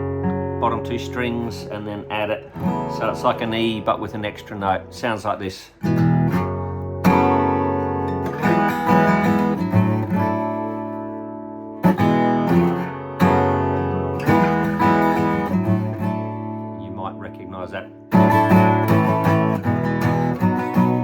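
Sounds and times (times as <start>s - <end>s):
guitar chord strums: 0.0s - 21.0s.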